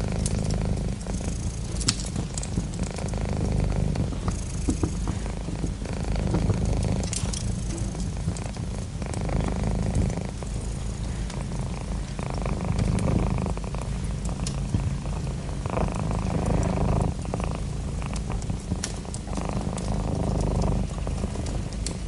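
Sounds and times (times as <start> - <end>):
cat purring: 0.0 - 22.0
wood fire crackling: 0.0 - 22.0.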